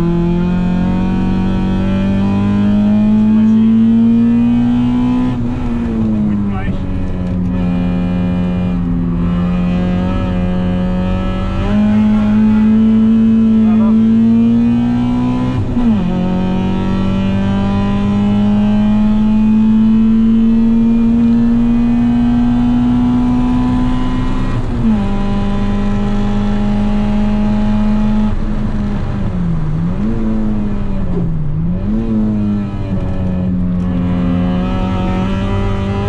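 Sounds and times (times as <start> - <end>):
car engine revving hard: 0.0 - 36.0.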